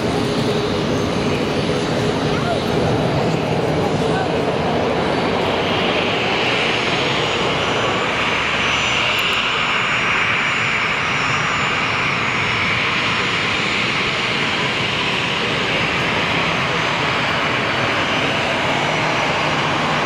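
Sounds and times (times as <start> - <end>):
jet engines rushing with whine: 0.0 - 20.0.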